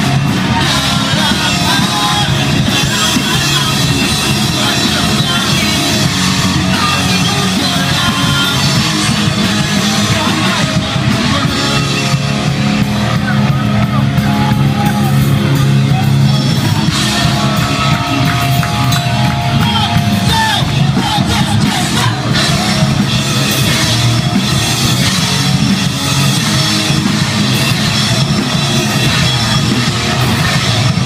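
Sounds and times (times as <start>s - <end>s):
bass guitar: 0.0s - 31.0s
distorted electric guitar: 0.0s - 31.0s
drum kit: 0.0s - 31.0s.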